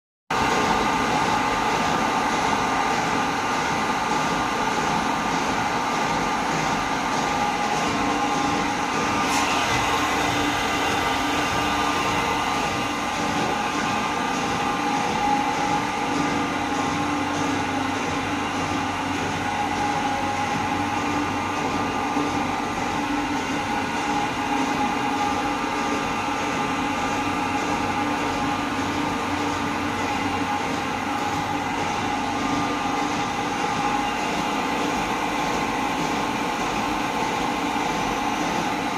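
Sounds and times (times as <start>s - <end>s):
milling machine cutting metal: 6.9s - 38.9s.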